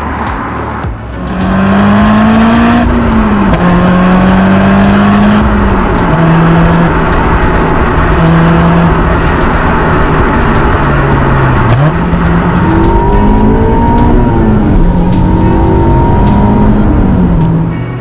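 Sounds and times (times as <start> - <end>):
car engine exhaust note: 0.0 - 18.0.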